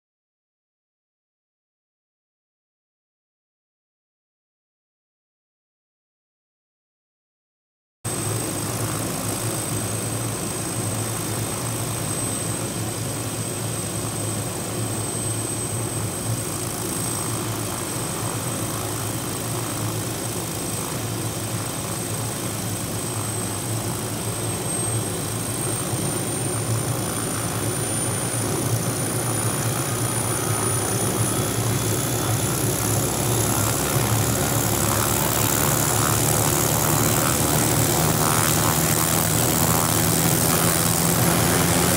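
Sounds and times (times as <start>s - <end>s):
helicopter turbine whine: 8.1s - 41.9s
low rotor and engine drone: 8.1s - 41.9s.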